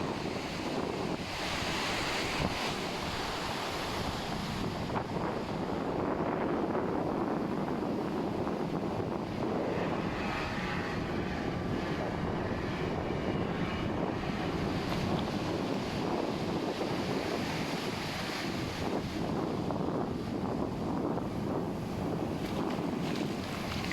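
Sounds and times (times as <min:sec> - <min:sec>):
ocean surf washing on shore: 0:00.0 - 0:23.9
wind buffeting microphone: 0:00.0 - 0:23.9.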